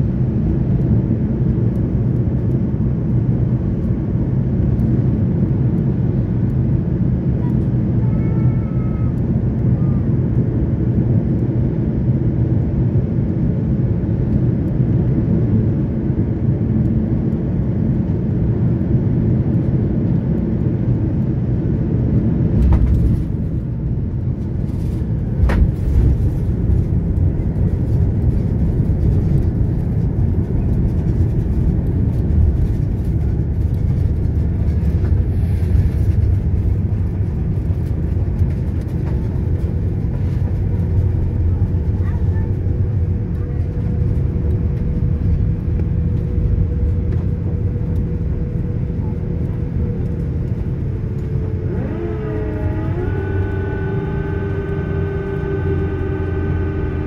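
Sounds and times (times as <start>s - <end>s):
airplane engine and airflow rumble: 0.0s - 57.0s.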